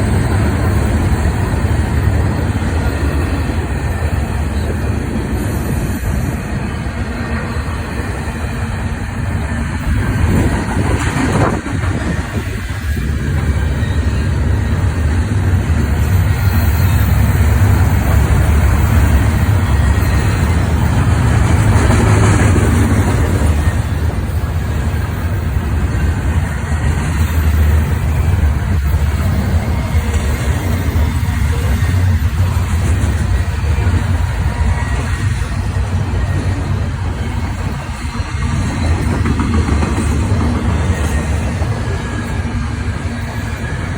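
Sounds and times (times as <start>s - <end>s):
freight train wheels rumbling on rail: 0.0s - 43.9s.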